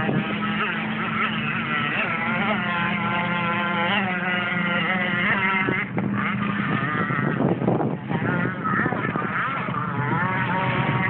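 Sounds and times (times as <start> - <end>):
model speedboat engine whining: 0.0 - 11.0.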